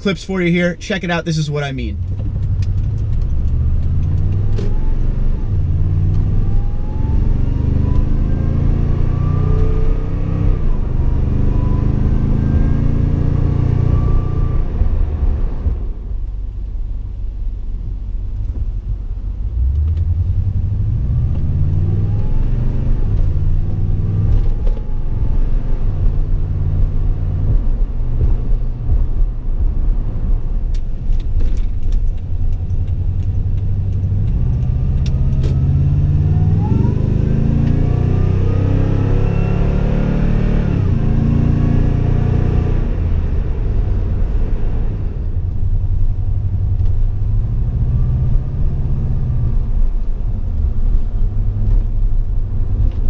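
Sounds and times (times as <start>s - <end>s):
supercharger whine: 0.0s - 53.0s
supercharged engine accelerating: 2.2s - 15.9s, 19.5s - 30.7s, 32.6s - 53.0s.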